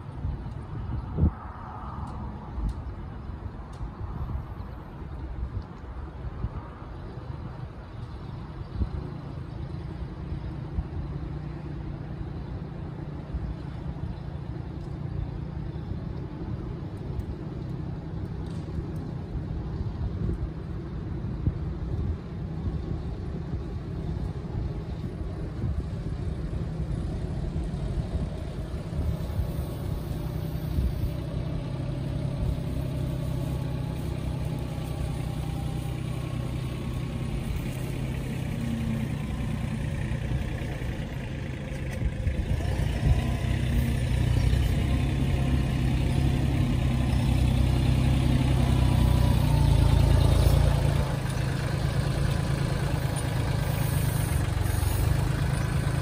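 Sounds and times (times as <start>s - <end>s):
tractor diesel engine running: 8.0s - 56.0s.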